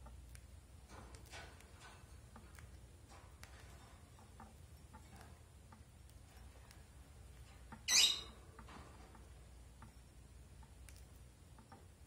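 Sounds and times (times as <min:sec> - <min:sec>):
beak clicking and crunching seeds: 0:00.0 - 0:07.8, 0:08.6 - 0:12.0.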